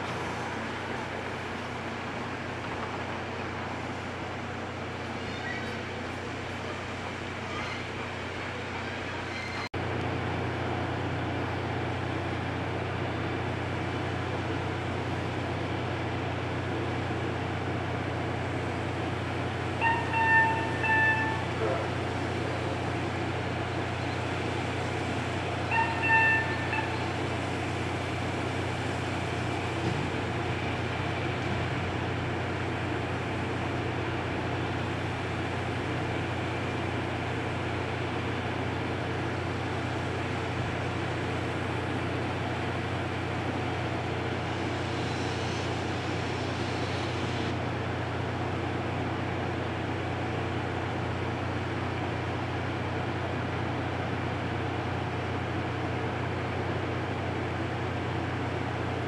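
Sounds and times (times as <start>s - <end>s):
train hum and rumble: 0.0s - 59.0s.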